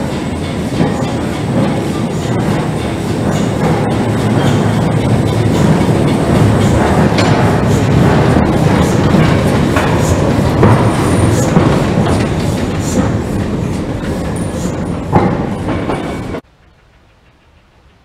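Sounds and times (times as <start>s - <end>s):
rumble of train wheels: 0.0s - 18.0s
steam locomotive clanks and chuffs: 0.0s - 18.0s.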